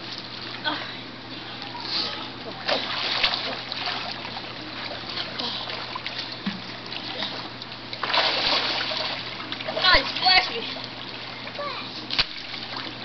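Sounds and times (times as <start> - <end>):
pool water splashing: 0.0 - 13.0.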